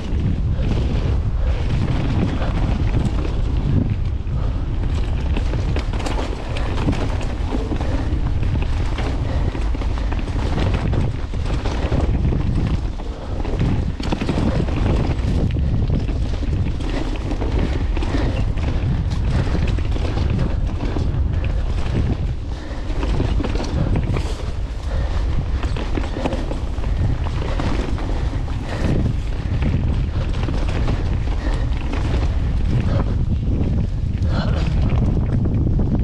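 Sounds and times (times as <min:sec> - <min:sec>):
bike clicks and rattles: 0:00.0 - 0:36.0
tyres rumbling over dirt: 0:00.0 - 0:36.0
wind buffeting microphone: 0:00.0 - 0:36.0.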